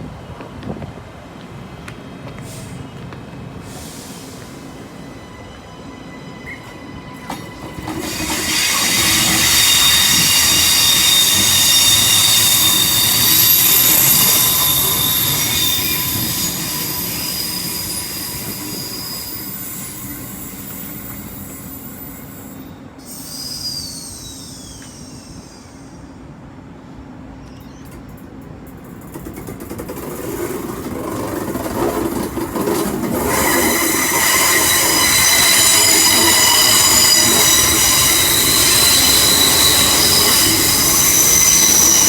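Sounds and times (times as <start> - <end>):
train running rumble: 0.0 - 23.0, 23.8 - 42.0
train wheels squealing: 2.4 - 42.0.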